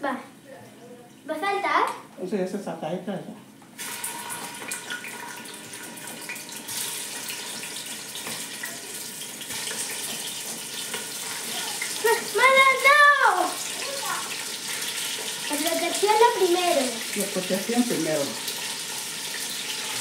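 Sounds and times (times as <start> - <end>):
meat sizzling in hot oil: 3.8 - 20.0.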